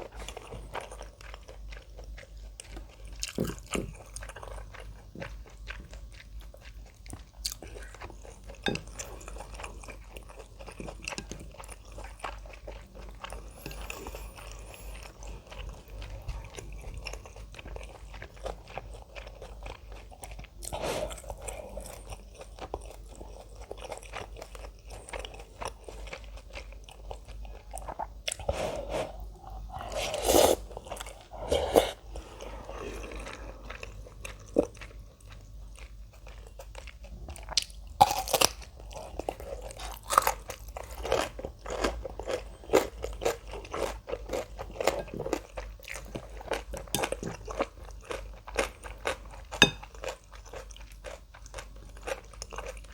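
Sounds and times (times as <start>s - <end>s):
close-miked chewing and crunching: 0.0s - 52.9s.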